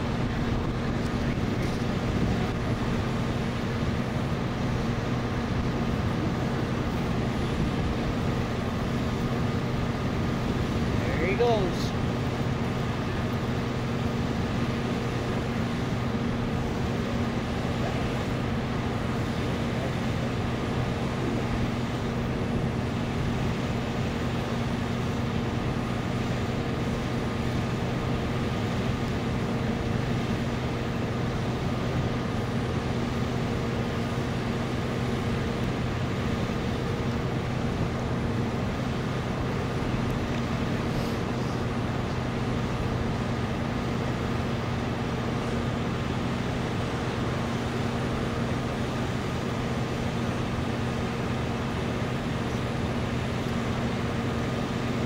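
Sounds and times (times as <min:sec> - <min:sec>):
constant background rush: 0:00.0 - 0:55.0
vehicle engine idling: 0:00.0 - 0:55.0.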